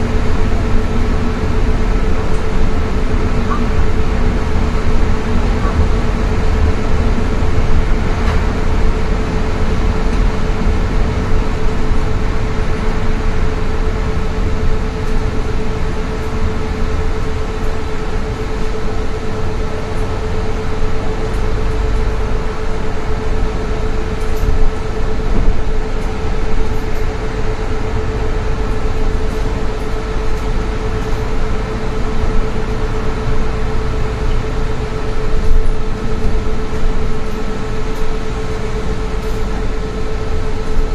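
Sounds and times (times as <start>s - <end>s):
constant hum: 0.0s - 40.9s
train ride rumble: 0.0s - 40.9s.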